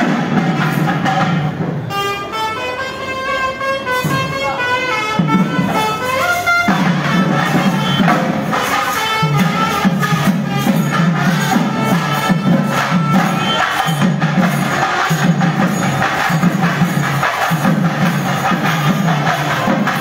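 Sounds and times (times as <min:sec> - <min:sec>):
drums and hand percussion: 0:00.0 - 0:20.0
wind instrument melody: 0:00.0 - 0:20.0.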